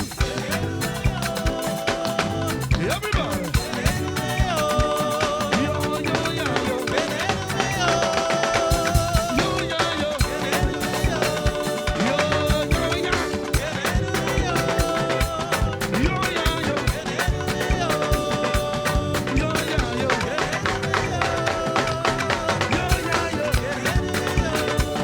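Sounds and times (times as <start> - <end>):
drum and percussion beat: 0.0 - 25.0
live band playing praise music: 0.0 - 25.0.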